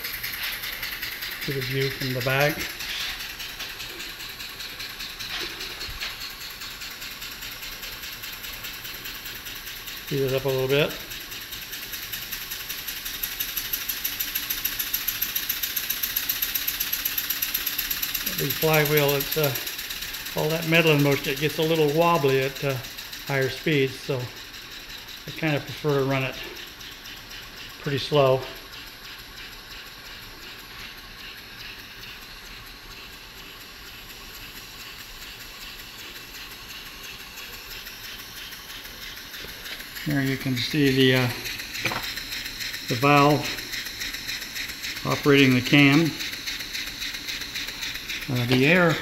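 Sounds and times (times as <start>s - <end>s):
model steam engine exhaust puffing: 0.0s - 49.0s.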